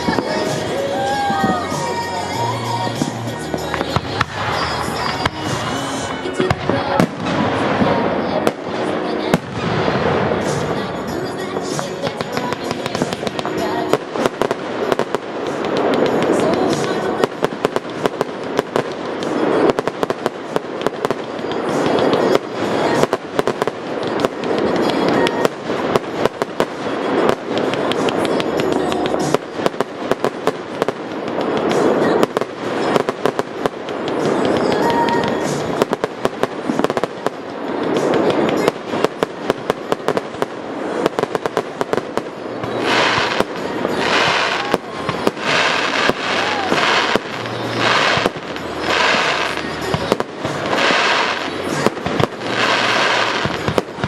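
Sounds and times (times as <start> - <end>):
aerial fireworks popping and crackling: 0.0 - 54.0.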